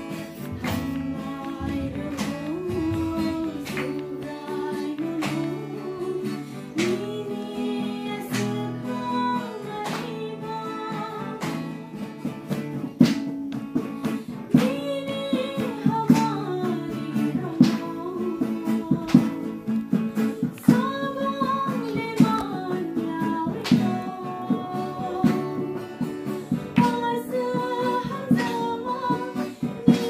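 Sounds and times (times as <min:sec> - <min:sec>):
woman singing: 0:00.0 - 0:12.6, 0:13.8 - 0:30.0
strummed acoustic guitar: 0:00.0 - 0:30.0.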